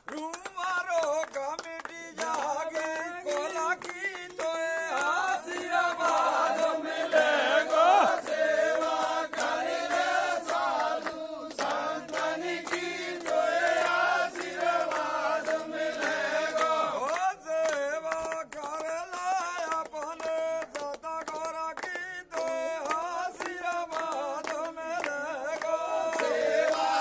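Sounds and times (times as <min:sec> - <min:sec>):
hand claps: 0:00.0 - 0:27.0
men chanting devotional song: 0:00.0 - 0:27.0.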